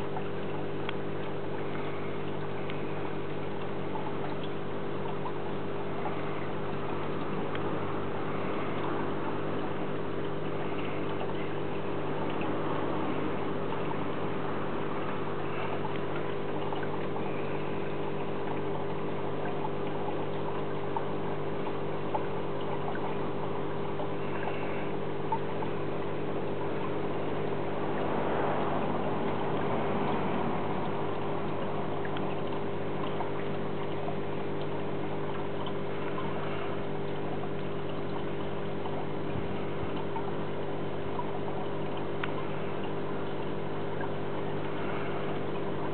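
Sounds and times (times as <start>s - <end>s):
low electric hum: 0.0s - 45.9s
water bubbling and trickling: 0.0s - 45.9s.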